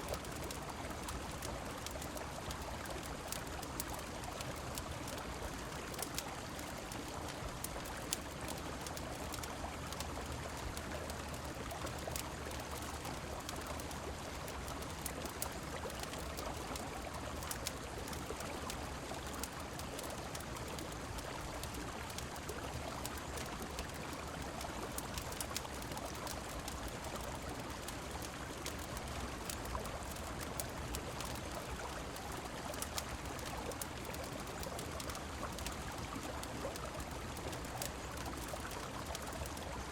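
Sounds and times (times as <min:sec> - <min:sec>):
falling rain: 0:00.0 - 0:39.9
wood fire crackling: 0:00.1 - 0:39.9.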